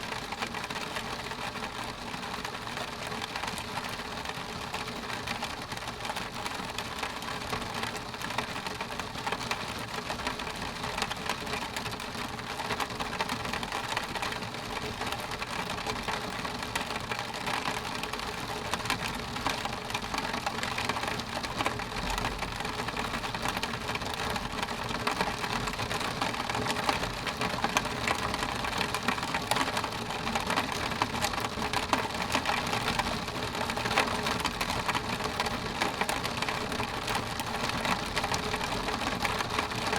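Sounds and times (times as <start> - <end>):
rain pattering on window: 0.0 - 39.9.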